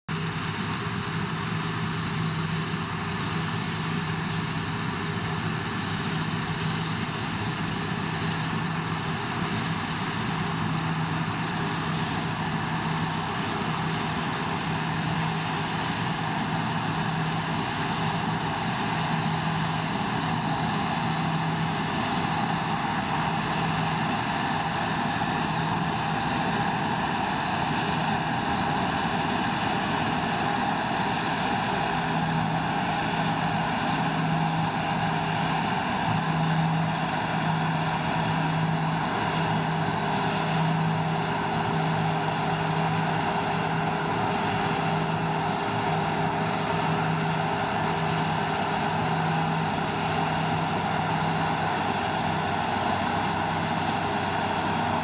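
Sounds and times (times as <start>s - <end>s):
combine harvester drone: 0.1s - 55.0s.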